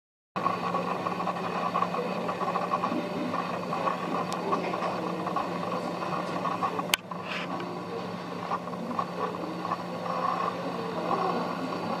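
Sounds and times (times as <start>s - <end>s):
locomotive mechanical hum: 0.4s - 12.0s.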